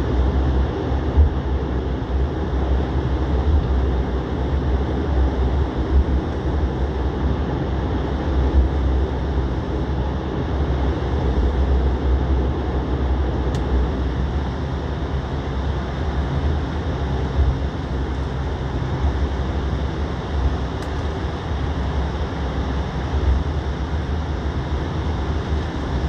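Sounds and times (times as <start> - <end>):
airliner engines rumbling: 0.0 - 26.0.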